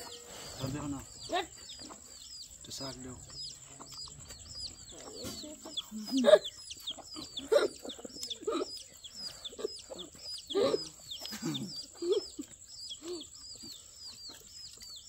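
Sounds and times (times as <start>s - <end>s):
chickens clucking: 0.0s - 15.0s
high peeping chirps: 0.0s - 15.0s.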